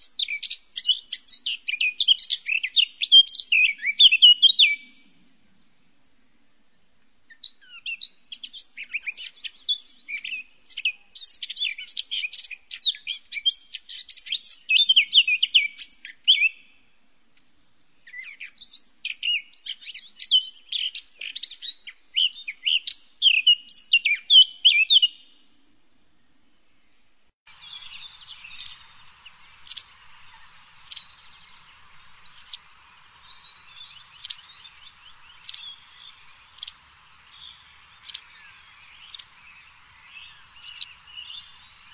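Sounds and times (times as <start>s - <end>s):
songbird twittering: 0.0s - 5.8s, 7.3s - 16.8s, 18.0s - 25.4s, 26.7s - 41.9s
steady outdoor hiss: 0.0s - 41.9s.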